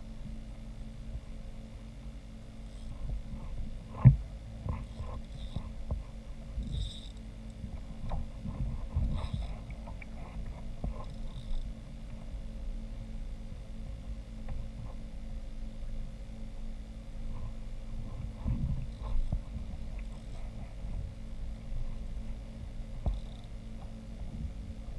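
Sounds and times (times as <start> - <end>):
low rumble: 0.0 - 24.9.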